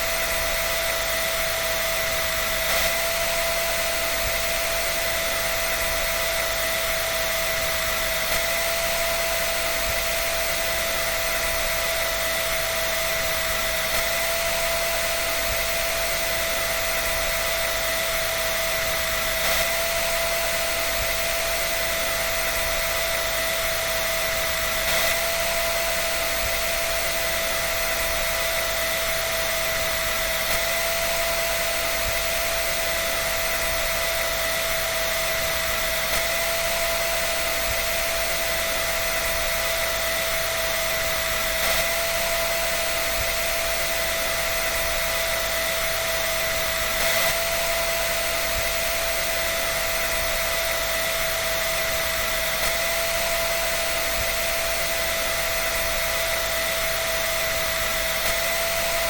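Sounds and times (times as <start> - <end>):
electric dryer running: 0.0 - 59.0.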